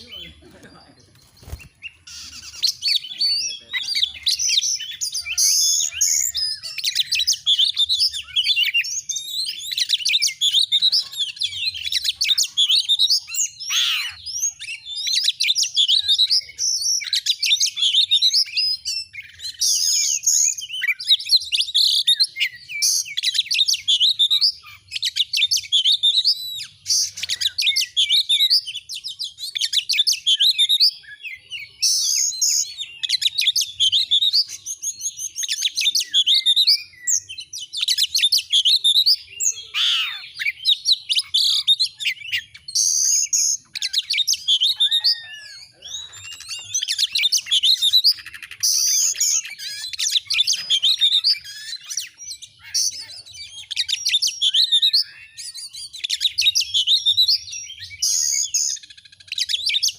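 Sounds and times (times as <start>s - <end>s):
bird singing chirps and whistles: 1.0s - 59.9s.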